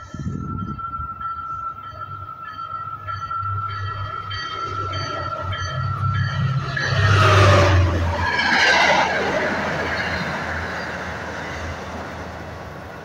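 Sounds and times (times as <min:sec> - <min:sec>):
diesel locomotive passing: 0:00.0 - 0:13.0
train wheels rumbling on rails: 0:00.0 - 0:13.0.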